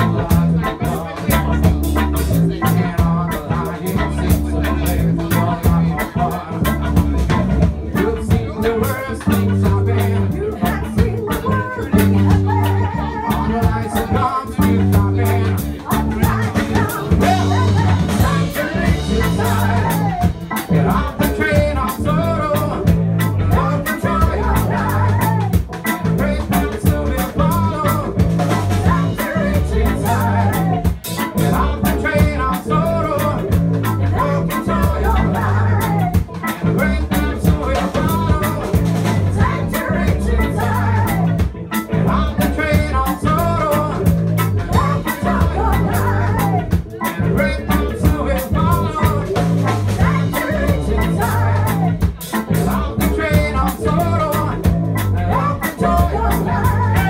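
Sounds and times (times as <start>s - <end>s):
bass line: 0.0s - 57.0s
person singing: 0.0s - 57.0s
reggae band playing: 0.0s - 57.0s.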